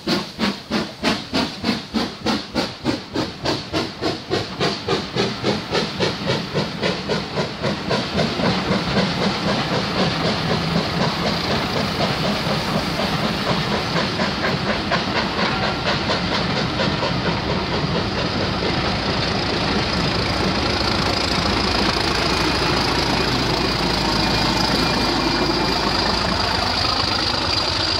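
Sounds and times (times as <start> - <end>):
steam locomotive chuffing: 0.0 - 27.9.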